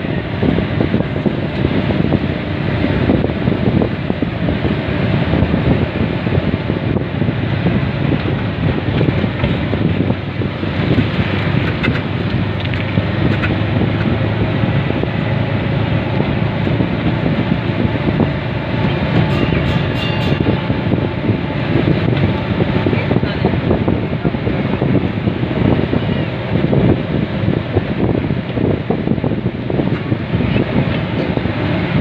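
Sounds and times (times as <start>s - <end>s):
wind noise on microphone: 0.0s - 32.0s.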